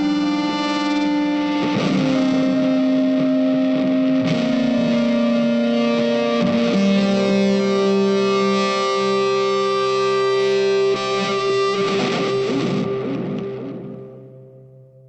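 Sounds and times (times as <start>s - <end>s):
distorted guitar chords: 0.0s - 15.0s.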